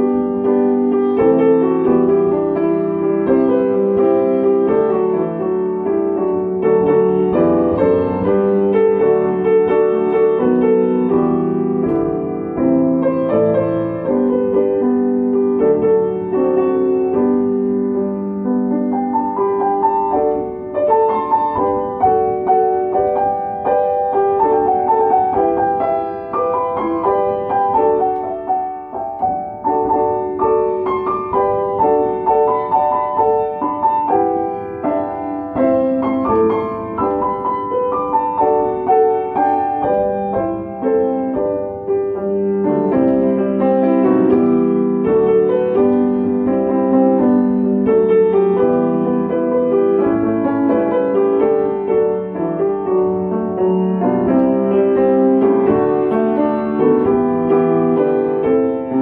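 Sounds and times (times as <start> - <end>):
upright piano playing gospel song: 0.0 - 59.0.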